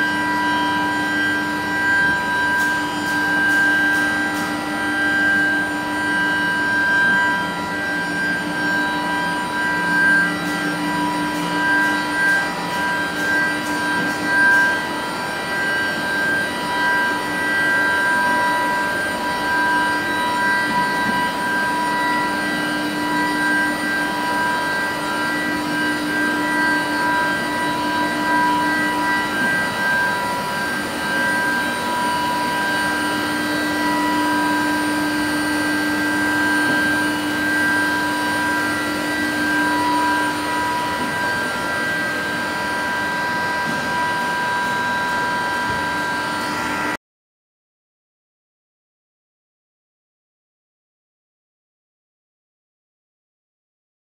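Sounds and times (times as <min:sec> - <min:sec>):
high-pitched machine whine: 0:00.0 - 0:47.0
mechanical hum: 0:00.0 - 0:47.0.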